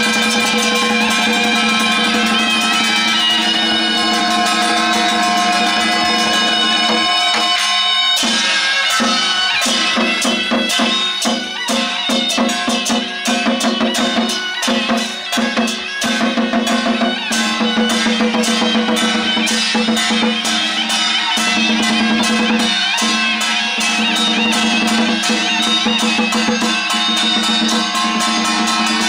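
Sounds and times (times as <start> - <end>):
fast drum and cymbal strikes: 0.0 - 29.0
shrill wind melody: 0.0 - 29.0.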